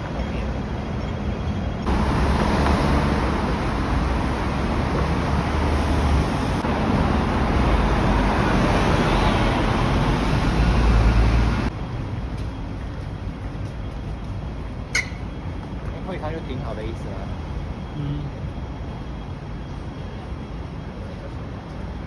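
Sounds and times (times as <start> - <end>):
bus engines rumbling: 0.0 - 22.0
road traffic noise: 0.0 - 22.0.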